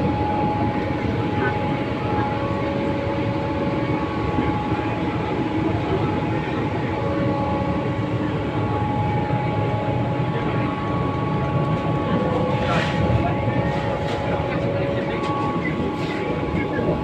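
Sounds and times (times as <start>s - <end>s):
train rumble: 0.0s - 17.0s
whining motor tones: 0.0s - 17.0s.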